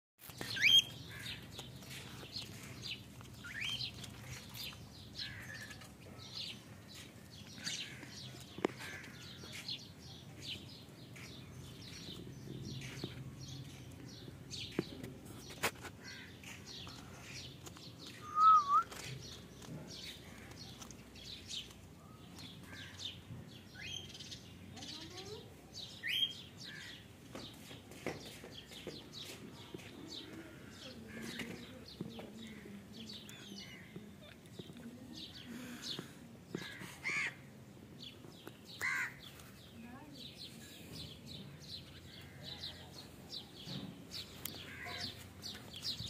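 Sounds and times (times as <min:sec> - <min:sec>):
small birds chirping: 0:00.2 - 0:46.0.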